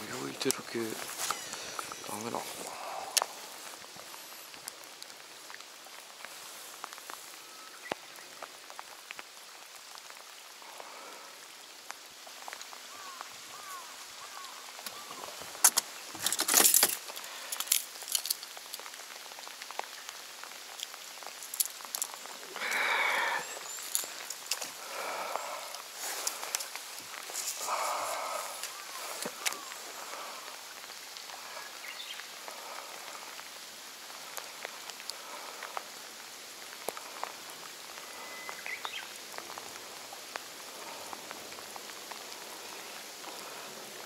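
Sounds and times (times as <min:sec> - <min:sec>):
steady rain on water: 0:00.0 - 0:44.0.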